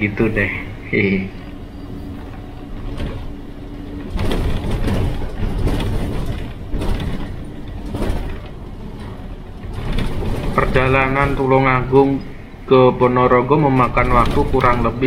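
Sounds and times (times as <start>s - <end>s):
bus engine drone: 0.0s - 15.0s
bus panels rattling and knocking: 1.5s - 15.0s.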